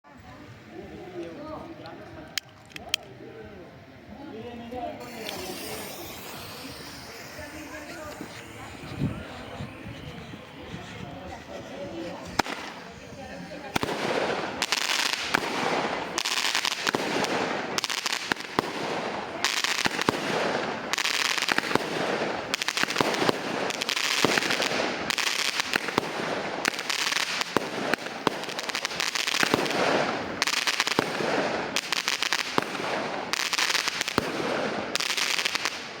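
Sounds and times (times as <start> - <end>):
firework shots with crackle: 5.0 - 36.0.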